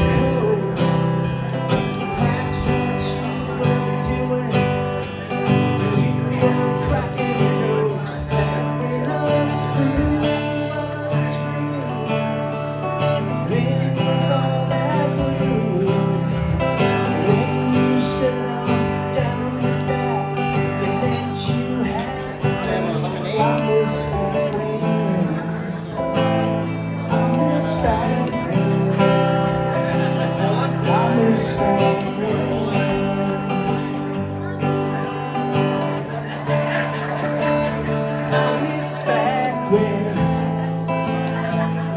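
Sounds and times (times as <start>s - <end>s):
person singing: 0.0s - 41.9s
strummed acoustic guitar: 0.0s - 41.9s.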